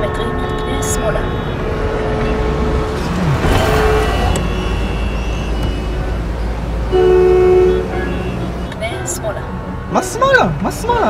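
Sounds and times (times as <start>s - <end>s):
car and traffic rumble: 0.0s - 11.0s
two-tone car horn honking: 0.0s - 11.0s.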